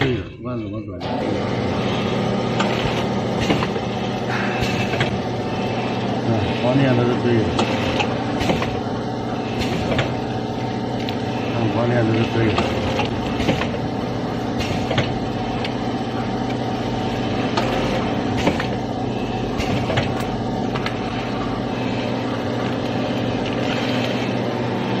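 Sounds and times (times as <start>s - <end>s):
packaging machine hum: 0.9s - 25.0s.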